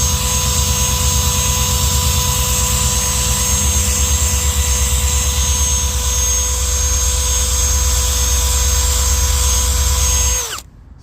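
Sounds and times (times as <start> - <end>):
drill grinding on boat hull: 0.0 - 10.7.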